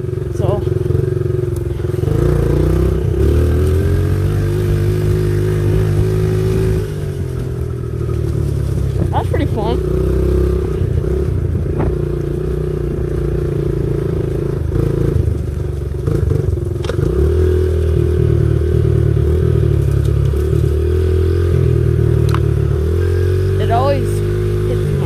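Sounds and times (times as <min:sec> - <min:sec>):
pit bike engine running: 0:00.0 - 0:25.0.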